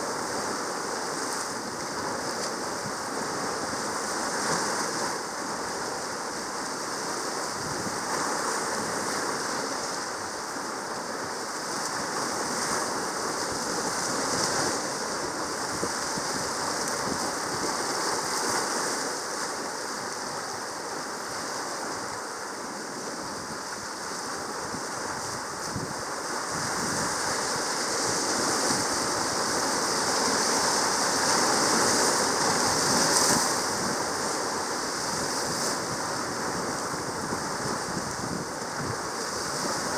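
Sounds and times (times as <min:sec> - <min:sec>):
sea water rushing: 0:00.0 - 0:39.9.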